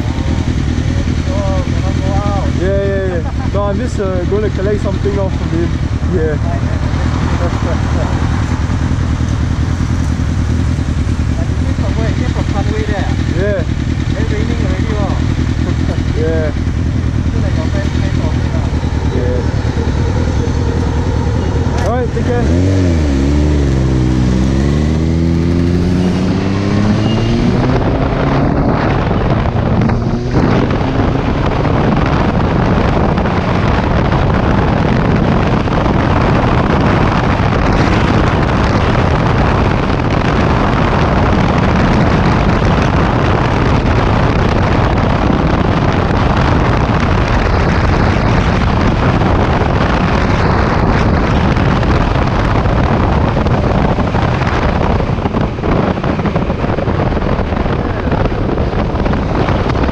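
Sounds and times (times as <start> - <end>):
motorcycle engine accelerating: 0.0 - 59.9
wind noise on microphone: 0.0 - 59.9.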